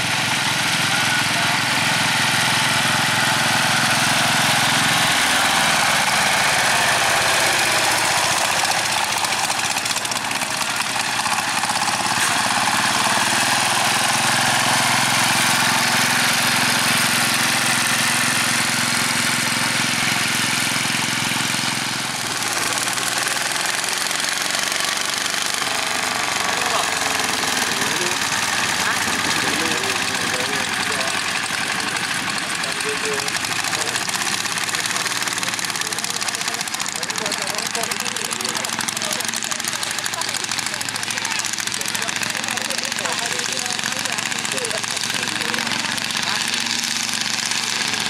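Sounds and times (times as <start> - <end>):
diesel tractor engines chugging: 0.0 - 48.0.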